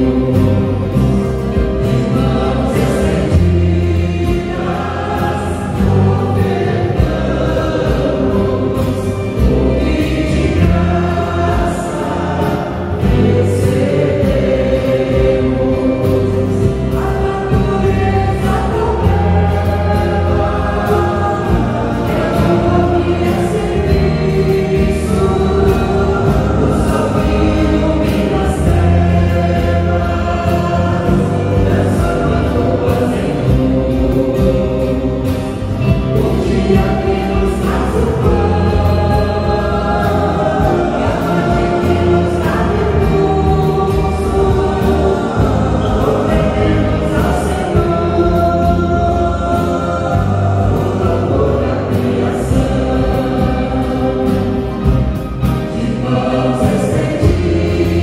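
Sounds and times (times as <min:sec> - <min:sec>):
acoustic guitar: 0:00.0 - 0:58.0
electric bass: 0:00.0 - 0:58.0
stage keyboard: 0:00.0 - 0:58.0
women singing a hymn: 0:00.0 - 0:58.0.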